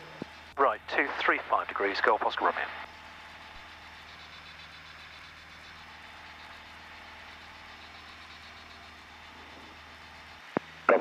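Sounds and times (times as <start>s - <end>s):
propeller engine droning: 0.0s - 11.0s.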